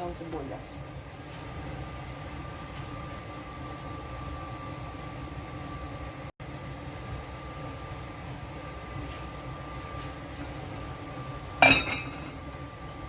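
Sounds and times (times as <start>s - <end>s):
faint constant whine: 0.0s - 13.0s
pot steaming with hiss: 0.0s - 13.0s.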